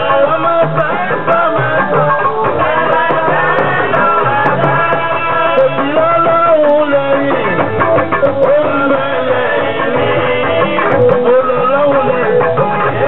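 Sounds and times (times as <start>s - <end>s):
drum strikes: 0.0s - 13.0s
live party band music: 0.0s - 13.0s
person singing: 0.0s - 13.0s.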